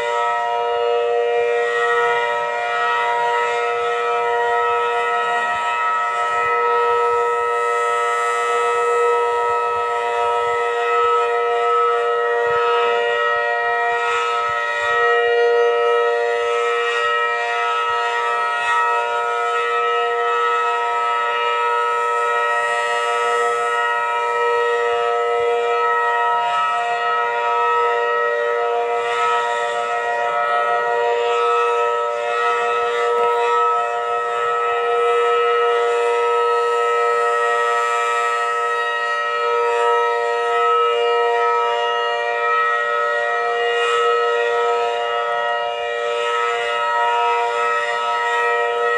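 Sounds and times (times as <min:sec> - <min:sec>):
warning siren steady tone: 0:00.0 - 0:48.9.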